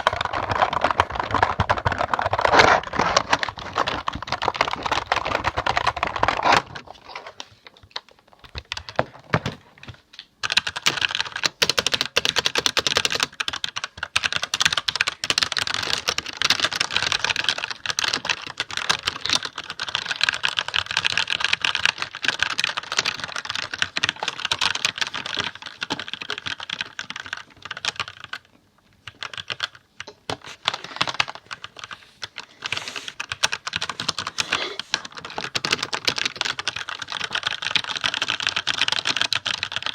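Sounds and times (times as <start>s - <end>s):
computer keyboard typing: 0.0s - 6.9s, 7.8s - 39.9s.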